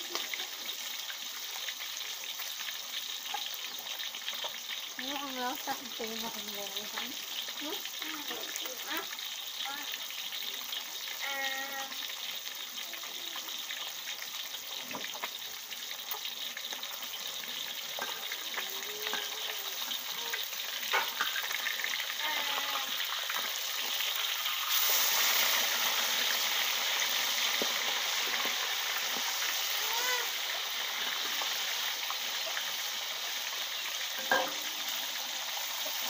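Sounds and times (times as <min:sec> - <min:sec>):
fish sizzling in oil: 0:00.0 - 0:36.0.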